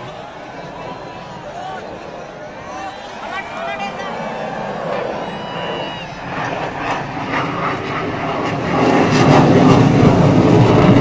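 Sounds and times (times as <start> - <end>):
jet aircraft flying over: 0.0 - 11.0.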